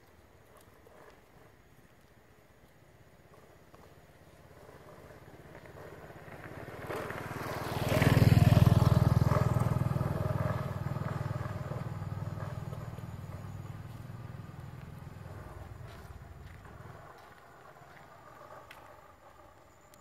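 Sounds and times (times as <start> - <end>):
motorbike passing: 3.3 - 20.0.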